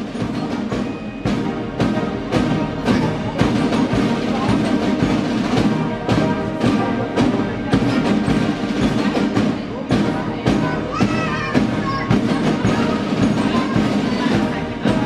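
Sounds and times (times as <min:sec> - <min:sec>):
orchestral music: 0:00.0 - 0:15.0
percussion beat: 0:00.0 - 0:15.0.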